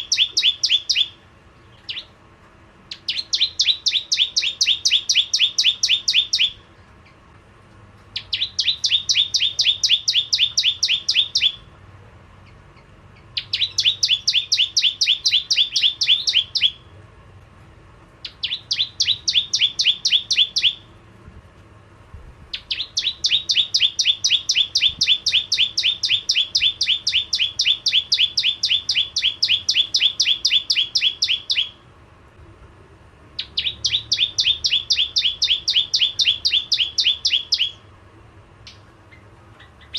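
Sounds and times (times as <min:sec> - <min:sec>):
bird rapid high chirps: 0:00.0 - 0:02.2, 0:02.9 - 0:07.2, 0:08.2 - 0:11.7, 0:12.4 - 0:16.9, 0:18.2 - 0:21.0, 0:22.5 - 0:31.8, 0:33.4 - 0:37.9, 0:38.6 - 0:39.9.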